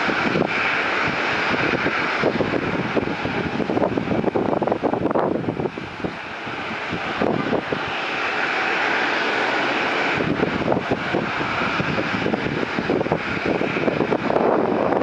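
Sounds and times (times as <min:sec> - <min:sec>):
jet engine rushing: 0:00.0 - 0:15.0
wind buffeting microphone: 0:00.0 - 0:15.0.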